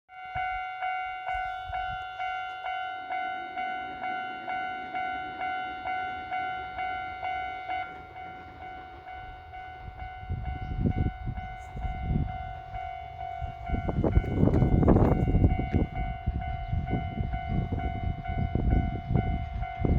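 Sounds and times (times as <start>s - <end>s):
level-crossing warning bell ringing: 0.1s - 19.9s.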